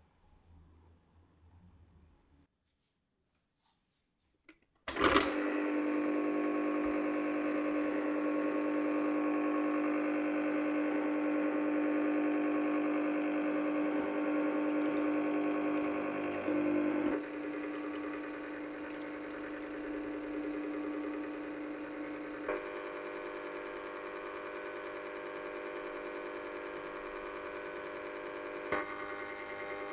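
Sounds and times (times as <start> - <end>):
ice cream maker switch: 4.8 - 29.9
electric motor humming: 4.9 - 29.9.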